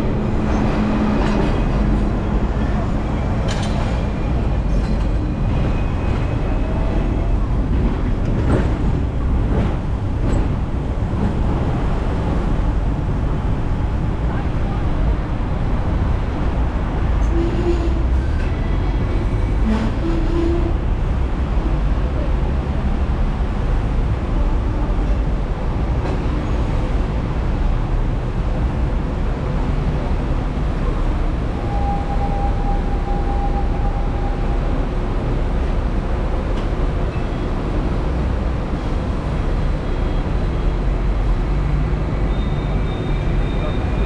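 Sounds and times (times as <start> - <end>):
tram rumbling on rails: 0.0 - 44.0.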